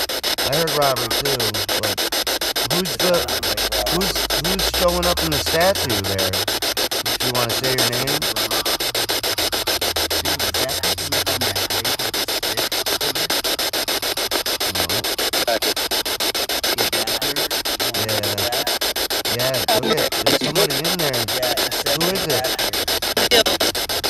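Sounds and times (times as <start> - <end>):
radio static hissing: 0.0 - 24.0
rapid clicks: 0.0 - 24.0
snatches of broadcast voice: 0.0 - 24.0.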